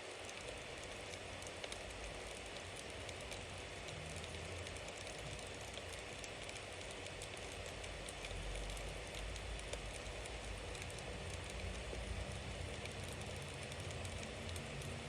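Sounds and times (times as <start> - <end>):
wood crackling and popping: 0.1 - 15.0.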